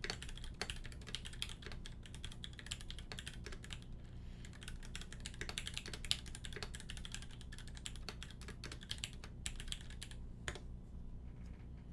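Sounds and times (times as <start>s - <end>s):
typing on mechanical keyboard: 0.0s - 10.6s.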